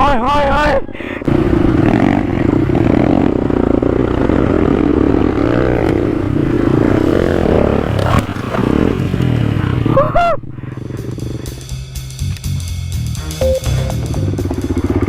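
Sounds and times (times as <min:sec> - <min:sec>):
motorcycle engine running: 0:01.3 - 0:15.0.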